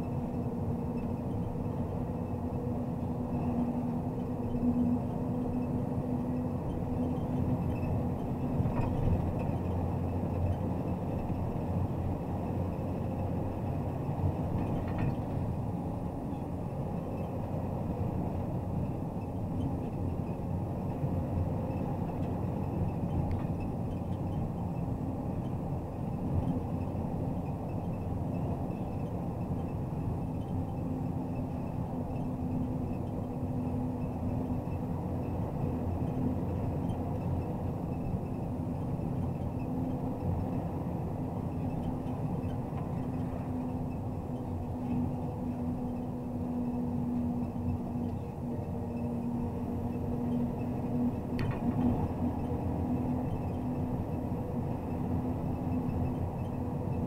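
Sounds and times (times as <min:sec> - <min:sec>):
low engine hum: 0:00.0 - 0:57.0
truck diesel engine rumble: 0:00.0 - 0:57.0.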